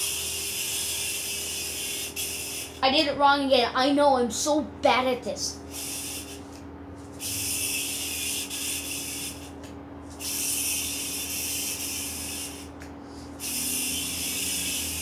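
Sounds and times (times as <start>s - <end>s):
yo-yo whirring: 0.0s - 2.8s, 5.7s - 15.0s.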